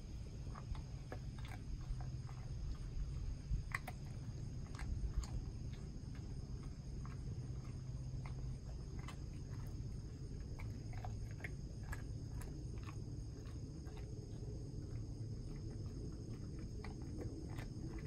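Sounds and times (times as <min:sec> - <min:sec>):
dog crunching crackers: 0:00.3 - 0:18.0.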